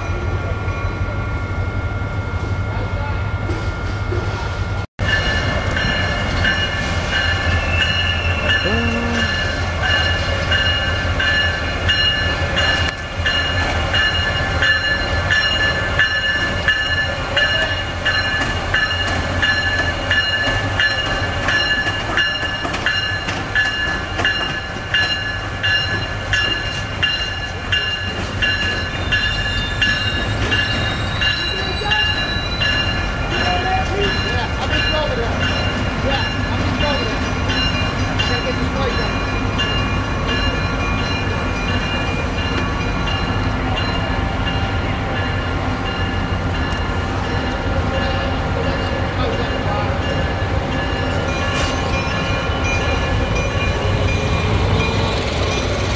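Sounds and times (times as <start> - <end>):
locomotive bell ringing: 0.0 - 55.9.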